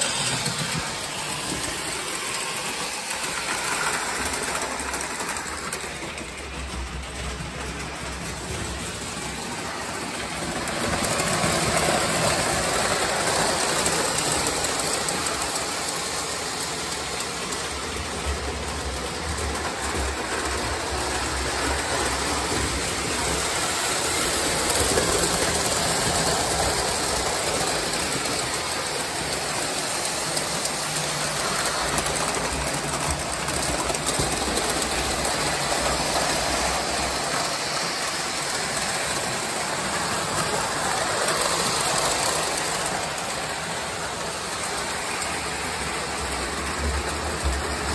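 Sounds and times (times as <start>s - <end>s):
model trains rattling on metal rails: 0.0s - 47.9s.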